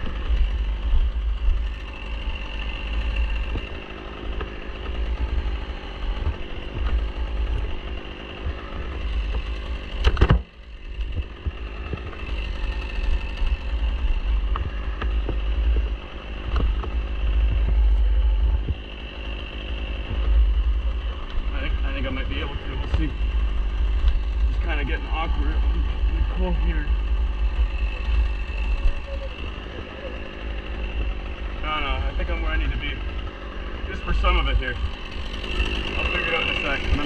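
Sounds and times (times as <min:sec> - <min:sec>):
engine running with deep rumble: 0:00.0 - 0:37.0.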